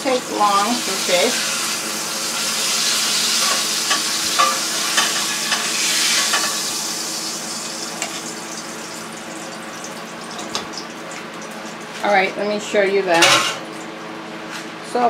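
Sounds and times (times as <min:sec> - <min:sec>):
hot oil sizzling in a frying pan: 0:00.0 - 0:12.5.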